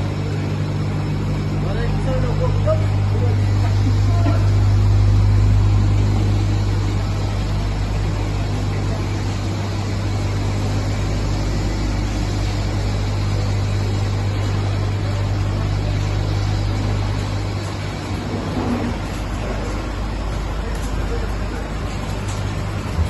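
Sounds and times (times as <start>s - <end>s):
drying machine humming and whirring: 0.0s - 23.0s.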